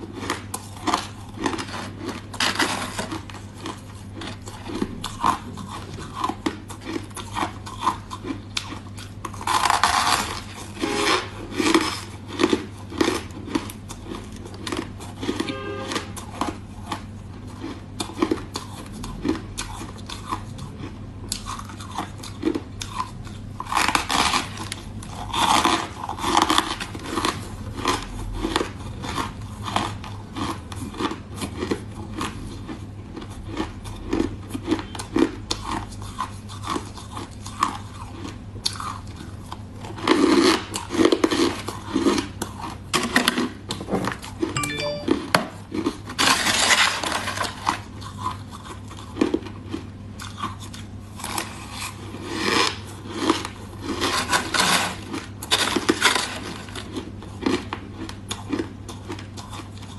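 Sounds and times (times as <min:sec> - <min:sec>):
crushed ice being chewed: 0:00.0 - 0:59.9.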